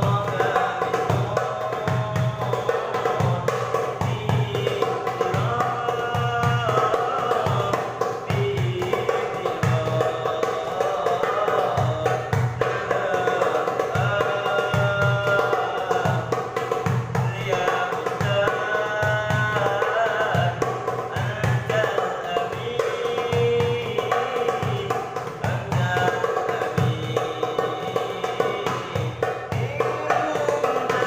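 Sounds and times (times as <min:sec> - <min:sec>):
hand drum beat: 0:00.0 - 0:31.0
person singing devotional song: 0:00.0 - 0:31.0.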